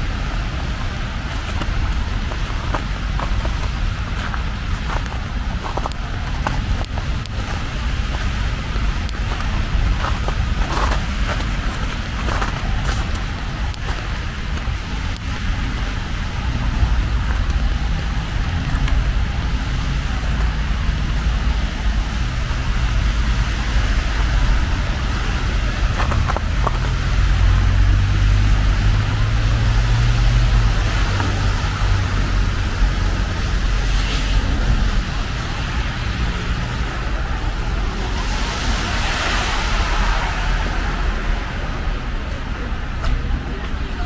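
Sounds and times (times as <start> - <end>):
road traffic on wet pavement: 0.0 - 44.0
steady rain: 0.0 - 44.0.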